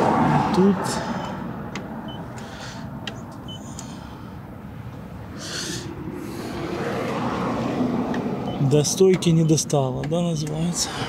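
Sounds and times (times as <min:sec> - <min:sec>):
outdoor hum: 0:00.0 - 0:11.0.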